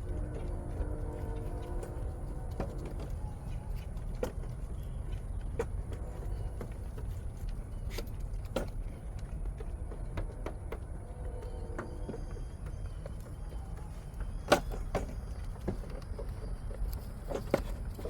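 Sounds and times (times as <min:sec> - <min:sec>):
goats chewing feed: 0:00.0 - 0:18.0.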